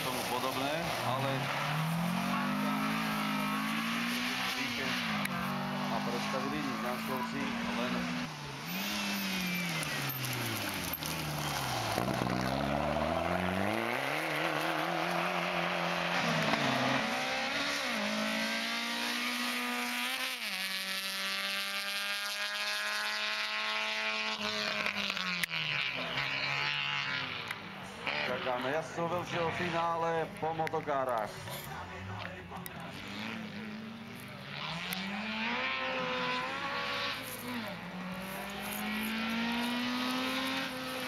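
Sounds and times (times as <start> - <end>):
racing car engines revving: 0.0 - 41.0.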